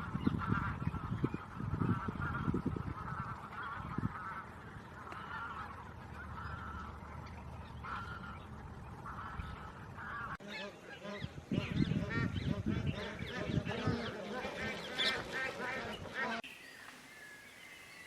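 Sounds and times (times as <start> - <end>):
geese honking: 0.0 - 16.4.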